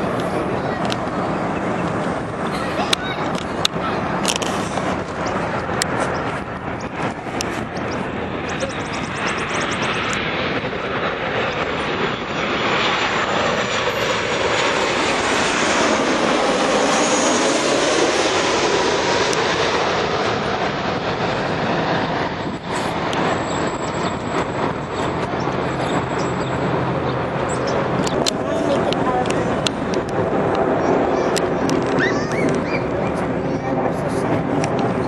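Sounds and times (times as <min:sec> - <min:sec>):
airliner engine roar: 0:00.0 - 0:35.0.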